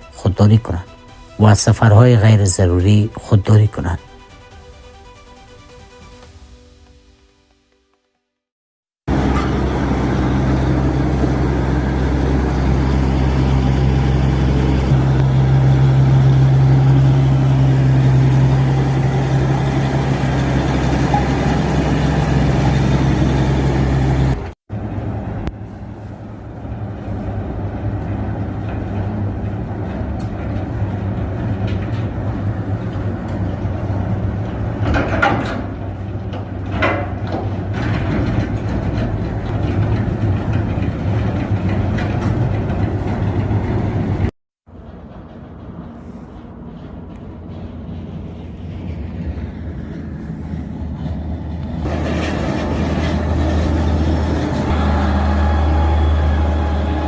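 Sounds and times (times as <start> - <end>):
rough engine with louder bursts: 9.1 - 34.9, 36.0 - 57.0
heavy vehicle engines droning: 9.1 - 57.0.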